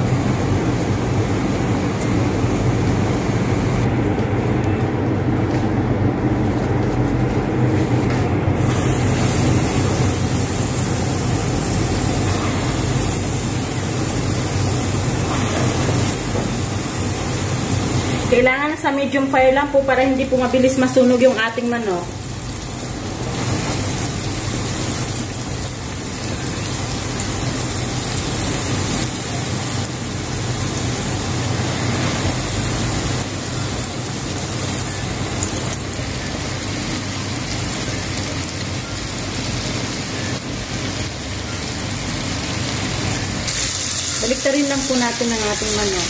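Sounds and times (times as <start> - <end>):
chicken sizzling in hot oil: 8.6 - 46.0.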